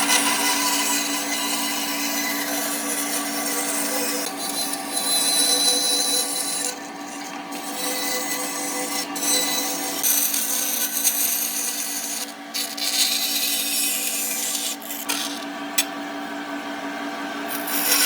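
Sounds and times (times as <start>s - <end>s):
power tool motor running: 0.0s - 6.7s, 7.4s - 16.0s, 17.5s - 18.0s.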